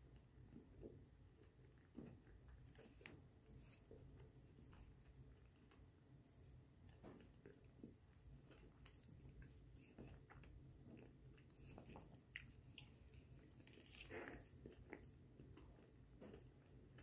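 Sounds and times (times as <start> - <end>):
person chewing cookie dough: 0.0 - 17.0.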